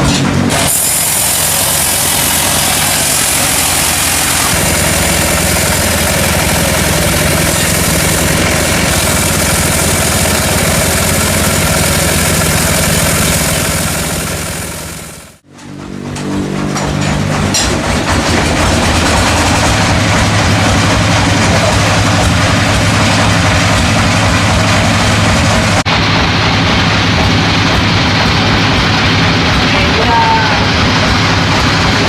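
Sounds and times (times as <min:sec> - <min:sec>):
engine drone: 0:00.0 - 0:32.0.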